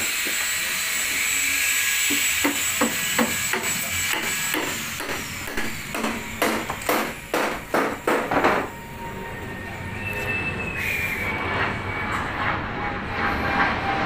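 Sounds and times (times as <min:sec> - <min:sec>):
steady noise with high squeal: 0:00.0 - 0:14.0.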